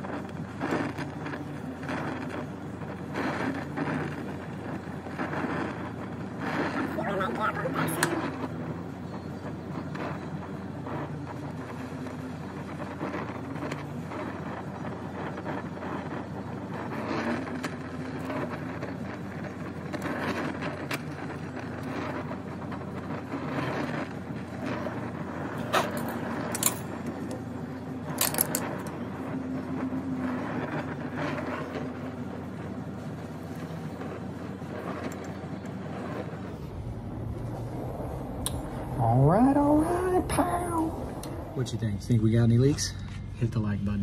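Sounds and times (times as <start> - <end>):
steady low hum: 0.0 - 44.0
torch flame hissing: 0.0 - 44.0.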